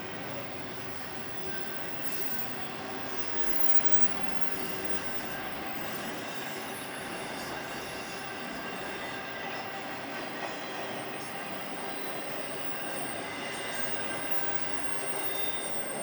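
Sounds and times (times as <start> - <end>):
freight train rumbling past: 0.0 - 16.0
train wheels squealing: 0.0 - 16.0.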